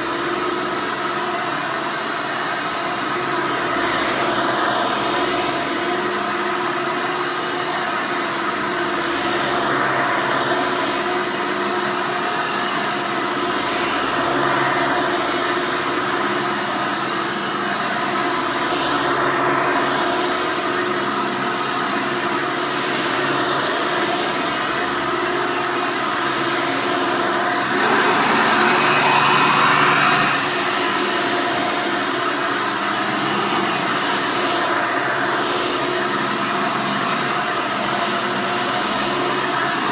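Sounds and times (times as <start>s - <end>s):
upright vacuum running: 0.0s - 39.9s.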